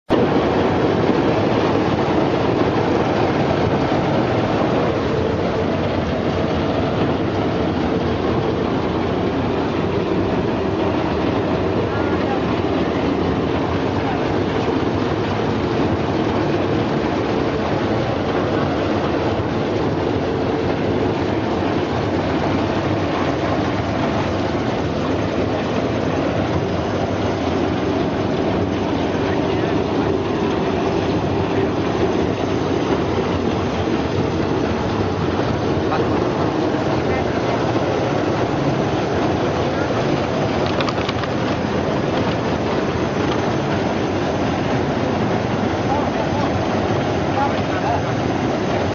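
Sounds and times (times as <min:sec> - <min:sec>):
vegetable washing machine rattling: 0:00.1 - 0:48.9.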